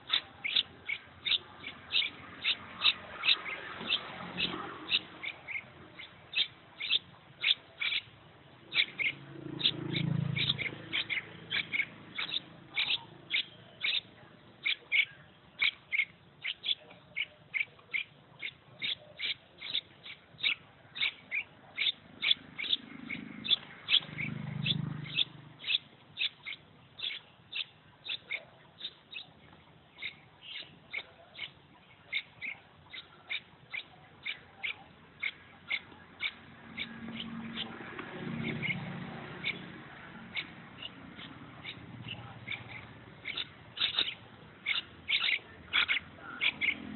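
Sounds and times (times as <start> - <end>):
young bird chirping: 0.0 - 46.9.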